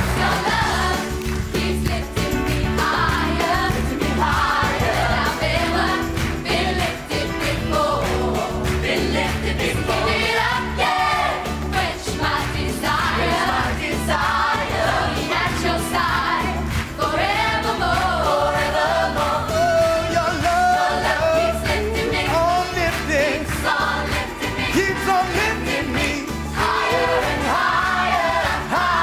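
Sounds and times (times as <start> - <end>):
amplified backing music with beat: 0.0 - 29.0
gospel choir singing in harmony: 0.0 - 29.0.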